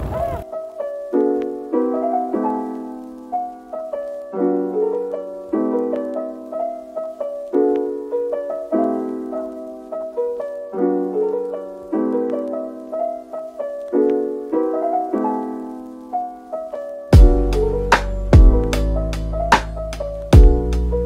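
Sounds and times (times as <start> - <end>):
piano playing chords: 0.4 - 21.0.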